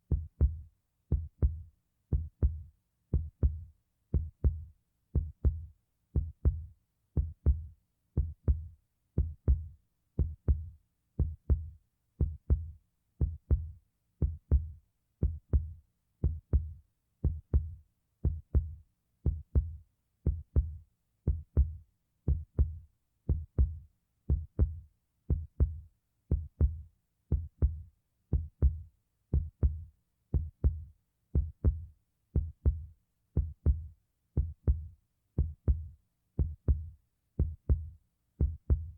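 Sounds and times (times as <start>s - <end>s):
heartbeat thumps: 0.1s - 2.6s, 3.2s - 38.9s.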